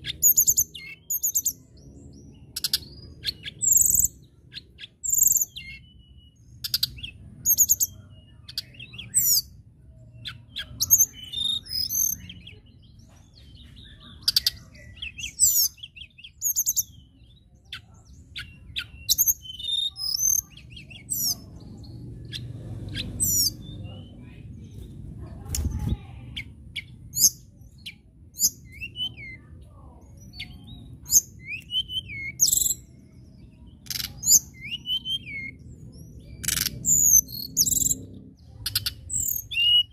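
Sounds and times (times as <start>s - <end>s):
bird singing whistled trills: 0.0s - 12.6s, 13.5s - 24.1s, 26.4s - 29.5s, 30.2s - 39.9s.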